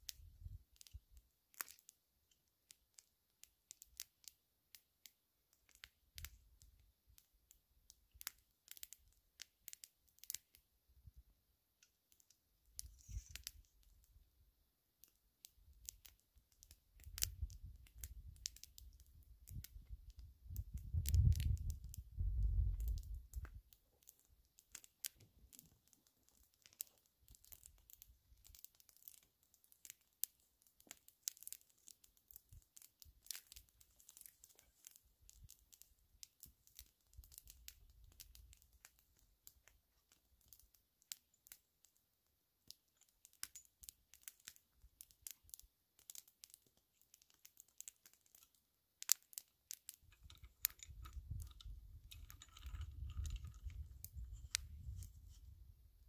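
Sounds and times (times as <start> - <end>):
small fire crackling and popping: 0.0 - 56.0.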